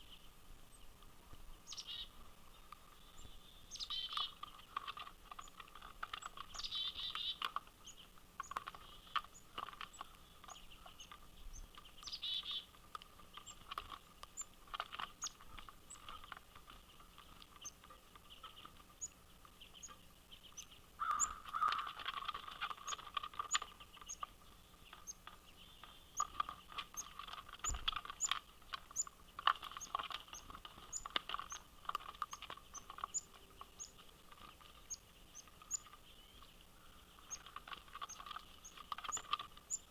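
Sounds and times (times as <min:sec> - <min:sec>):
birds chirping: 0:00.0 - 0:39.9
small birds chip notes: 0:00.0 - 0:39.9.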